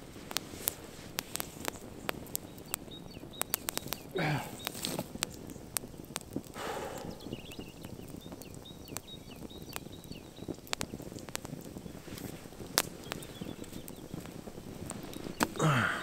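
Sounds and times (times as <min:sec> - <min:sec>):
campfire crackling and popping: 0:00.0 - 0:16.0
small birds chirping: 0:00.1 - 0:16.0.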